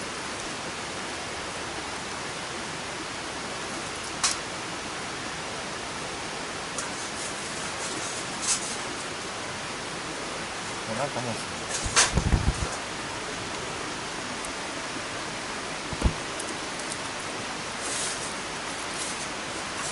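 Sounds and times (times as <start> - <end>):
steady rushing hiss: 0.0 - 19.9.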